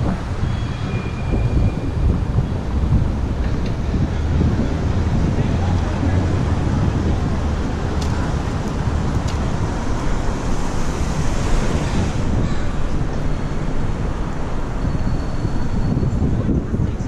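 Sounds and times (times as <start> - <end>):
road and traffic noise: 0.0 - 17.0
wind rushing over microphone: 0.0 - 17.0.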